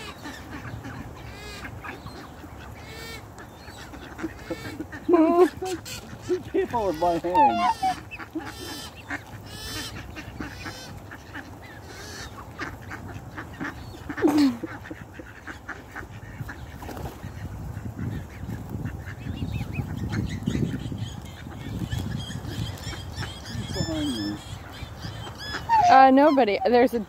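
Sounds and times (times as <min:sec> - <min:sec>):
swans and ducks calling: 0:00.0 - 0:27.0.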